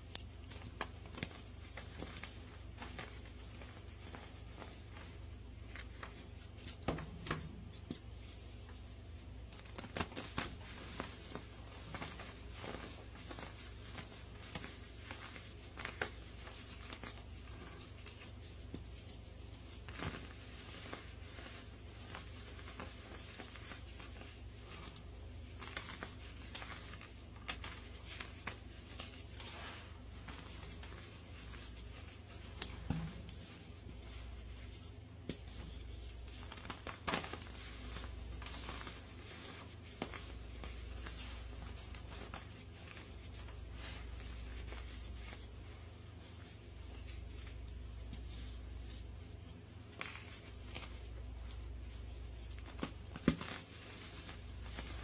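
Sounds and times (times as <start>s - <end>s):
hands crushing crunchy powder block: 0.0s - 8.5s, 9.3s - 45.5s, 49.9s - 55.0s.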